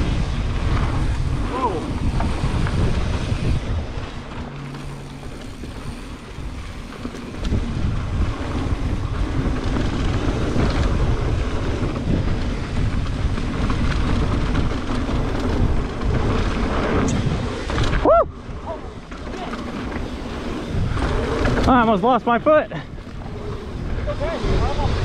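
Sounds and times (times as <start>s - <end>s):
tyres rolling over dirt: 0.0s - 25.0s
wind rushing over microphone: 0.0s - 25.0s.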